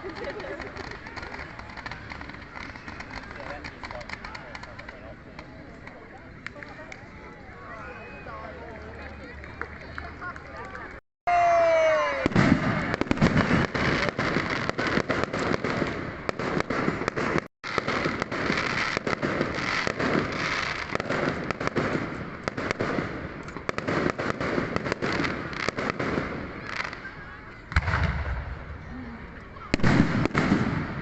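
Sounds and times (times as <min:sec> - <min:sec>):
fireworks bangs and crackles: 0:00.0 - 0:07.3, 0:09.0 - 0:31.0.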